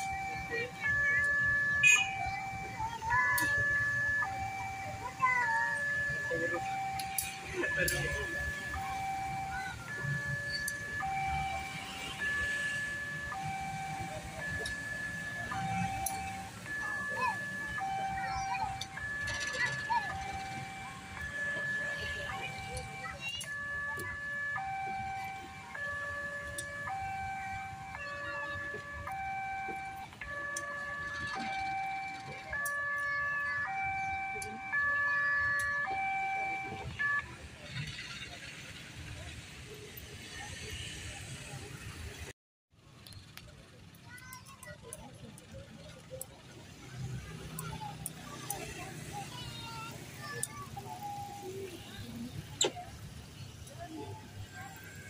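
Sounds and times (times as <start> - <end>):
two-tone warning siren: 0.0 - 42.3, 45.9 - 55.0.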